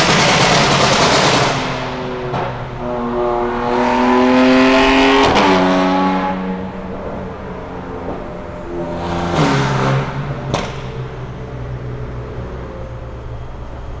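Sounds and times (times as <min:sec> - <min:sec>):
car exhaust drone in tunnel: 0:00.0 - 0:14.0.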